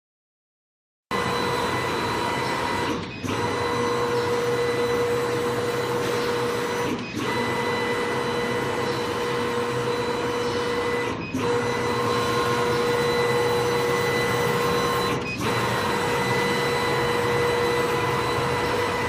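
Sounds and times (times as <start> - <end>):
constant machine whine: 1.1 - 19.0
laser engraving machine whirring: 1.1 - 19.0.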